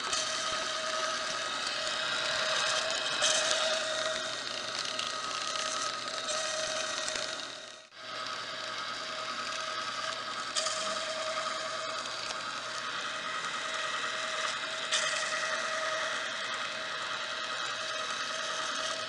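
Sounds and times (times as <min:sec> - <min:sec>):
film machine whirring and whining: 0:00.0 - 0:19.0.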